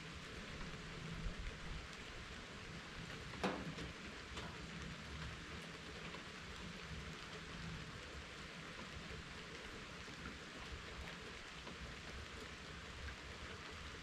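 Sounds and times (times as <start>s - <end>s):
raindrops tapping close by: 0.0s - 14.0s
steady rain falling: 0.0s - 14.0s.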